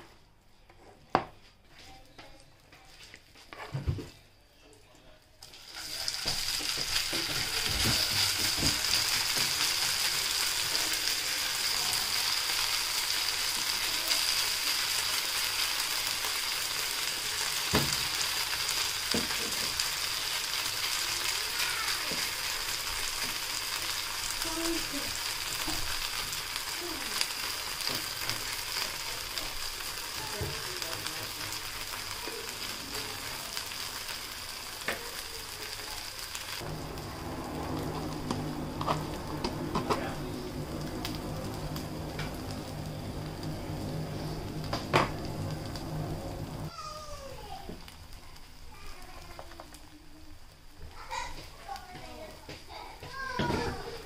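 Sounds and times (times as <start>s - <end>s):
potato mixture sizzling in a pan: 5.4s - 54.0s.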